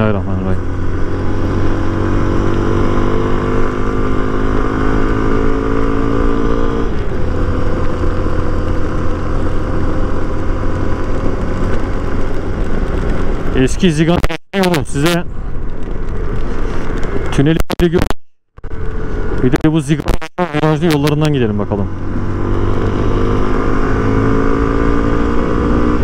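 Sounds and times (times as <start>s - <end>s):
motorcycle engine running: 0.0s - 14.5s, 15.3s - 26.0s.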